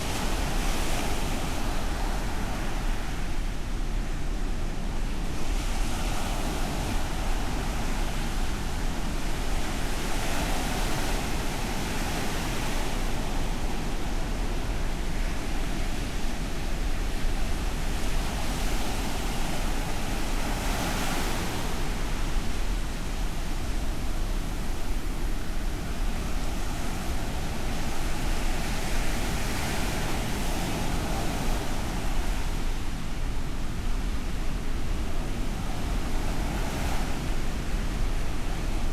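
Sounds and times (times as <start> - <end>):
ocean surf on sandy beach: 0.0 - 38.9.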